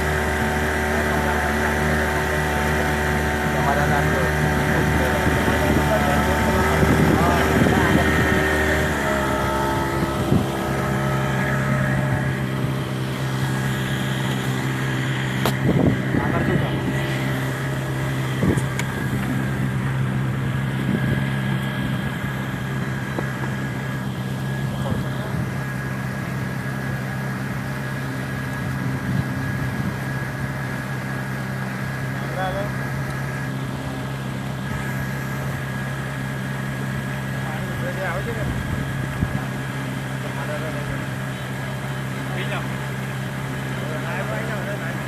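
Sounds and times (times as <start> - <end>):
outboard motor running: 0.0 - 45.0.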